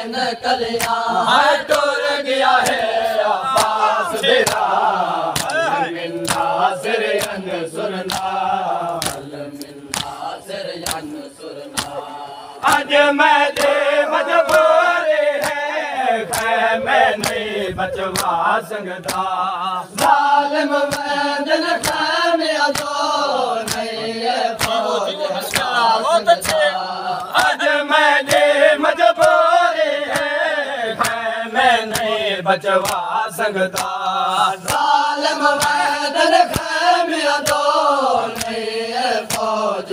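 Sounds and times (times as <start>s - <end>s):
men chanting in unison: 0.0s - 39.9s
hand slaps on chests: 0.7s - 2.0s, 2.6s - 16.6s, 17.2s - 28.6s, 29.2s - 29.4s, 30.0s - 30.4s, 31.0s - 31.3s, 31.9s - 39.9s.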